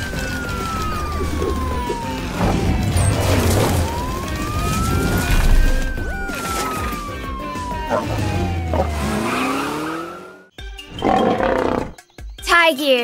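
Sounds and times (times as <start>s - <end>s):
emergency vehicle siren wailing: 0.0s - 10.5s
background music: 0.0s - 13.0s.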